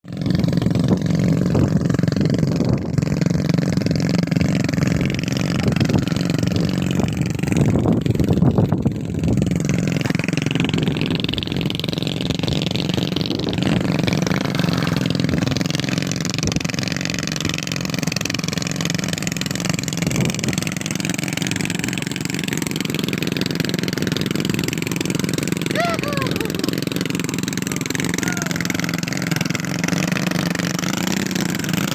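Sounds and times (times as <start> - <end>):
engine running under load: 0.0 - 31.9.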